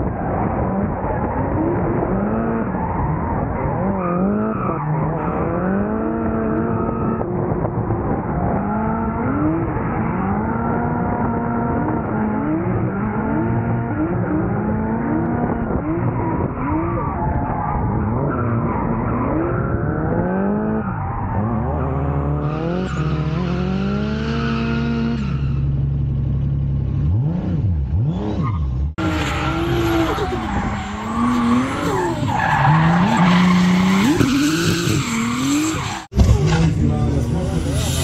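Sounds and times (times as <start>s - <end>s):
car engines revving hard: 0.0s - 38.0s.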